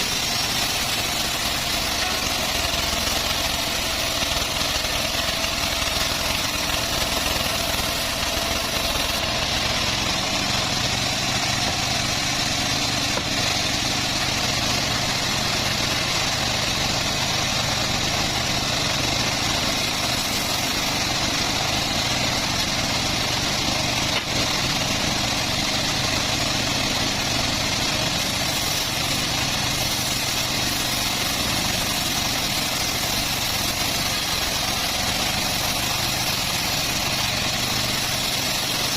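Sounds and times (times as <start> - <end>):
bandsaw mill running: 0.0 - 38.9.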